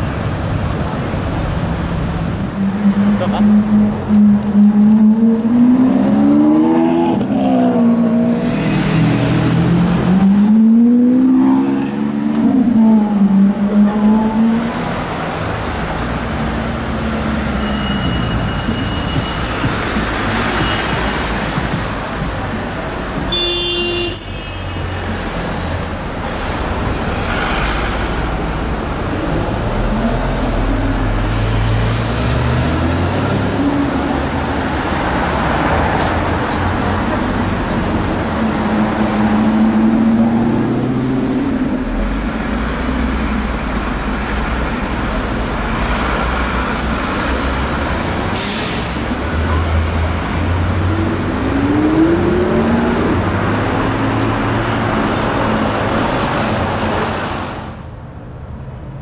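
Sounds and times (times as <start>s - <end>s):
car and bus engines running: 0.0s - 59.0s.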